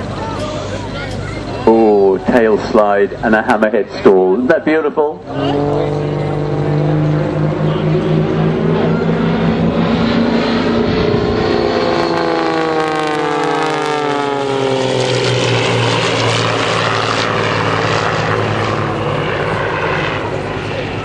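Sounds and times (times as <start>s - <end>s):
propeller plane engine passing: 0.0s - 21.0s.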